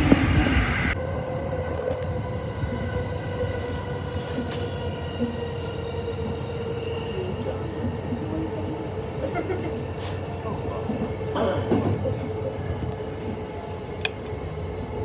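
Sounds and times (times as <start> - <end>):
electric train whine: 0.0 - 15.0
train wheels rumbling on rail: 0.0 - 15.0.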